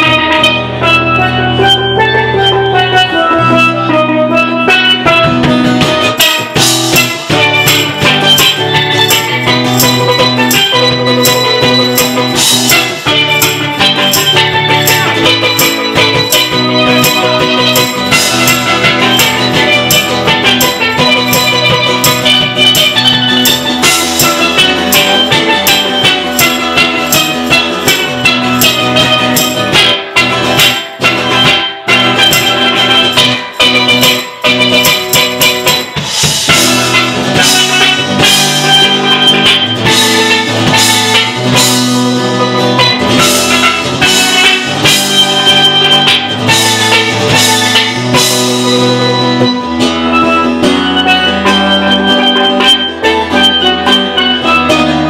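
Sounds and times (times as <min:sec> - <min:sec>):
steelpan melody: 0:00.0 - 0:55.0
strummed acoustic guitar: 0:00.0 - 0:55.0
drum beat: 0:02.8 - 0:55.0.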